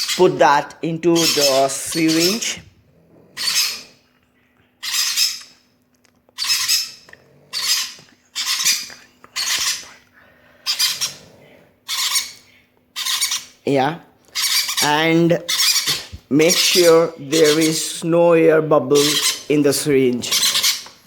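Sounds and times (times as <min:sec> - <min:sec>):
chicks raspy begging calls: 0:00.0 - 0:02.7, 0:03.3 - 0:04.0, 0:04.8 - 0:05.6, 0:06.4 - 0:09.9, 0:10.5 - 0:18.3, 0:18.9 - 0:21.0.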